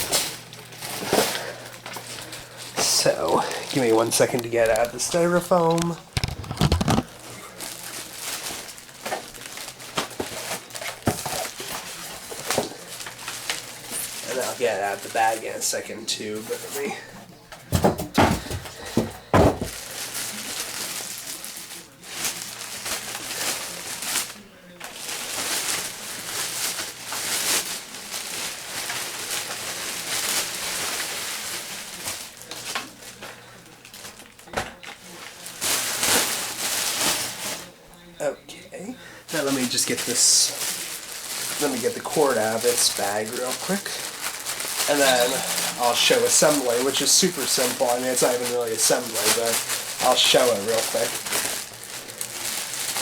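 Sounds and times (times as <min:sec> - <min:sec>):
styrofoam and plastic bag rustling: 0:00.0 - 0:53.0.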